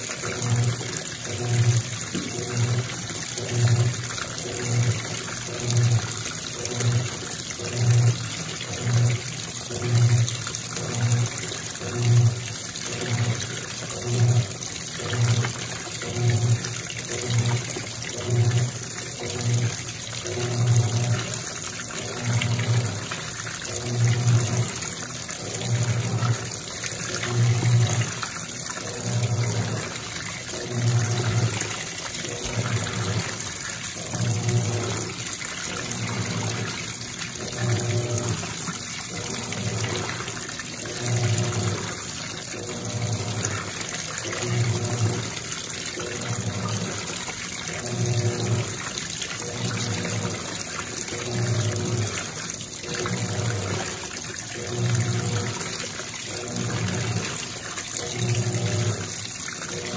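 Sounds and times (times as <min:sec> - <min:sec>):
washing machine agitator humming: 0:00.0 - 0:59.9
water pouring into tub: 0:00.0 - 0:59.9.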